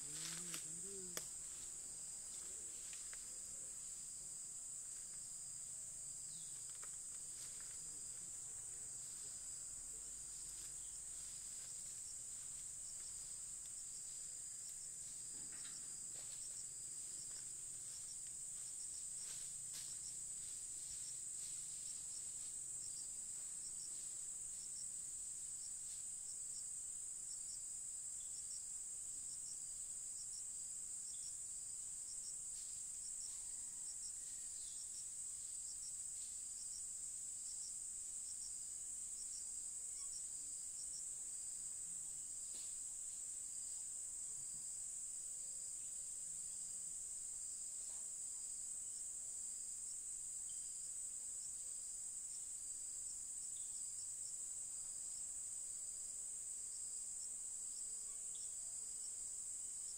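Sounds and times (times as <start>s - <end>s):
insect chirps: 0.0s - 59.9s
insects droning: 0.0s - 59.9s.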